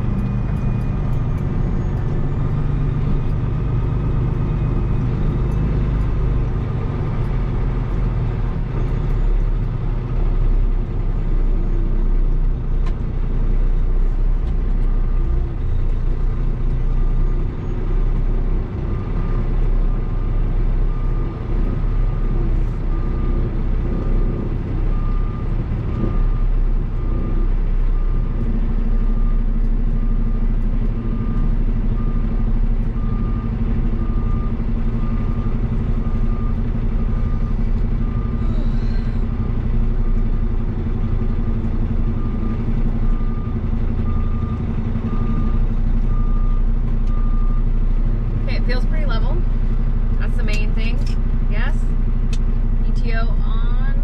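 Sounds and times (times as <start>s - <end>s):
diesel engine low rumble: 0.0s - 54.0s.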